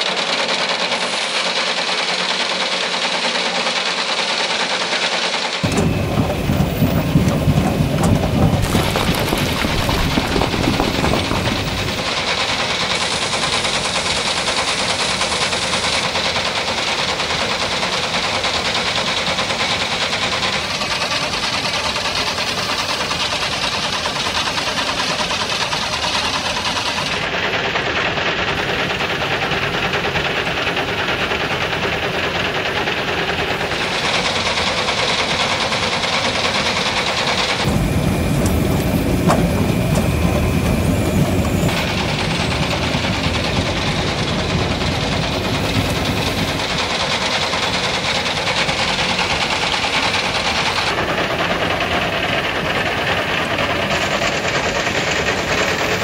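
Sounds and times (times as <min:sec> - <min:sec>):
rattling machine noise: 0:00.0 - 0:56.0.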